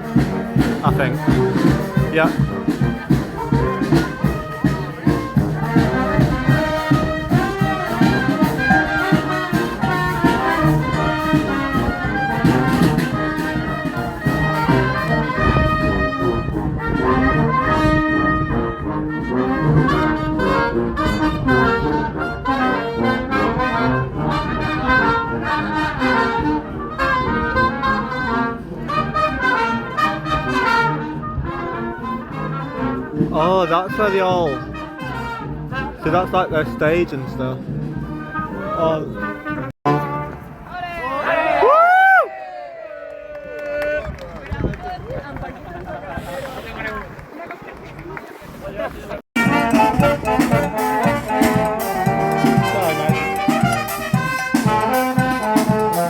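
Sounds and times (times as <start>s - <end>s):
brass band playing: 0.0s - 40.8s, 49.4s - 56.0s.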